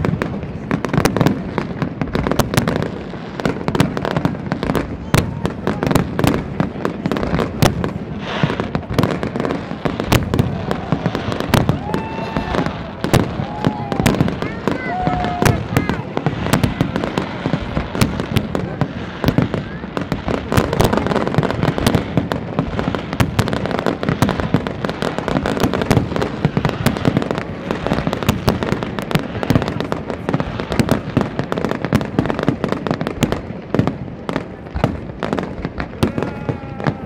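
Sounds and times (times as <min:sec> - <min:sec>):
fireworks bursts and bangs: 0:00.0 - 0:37.0.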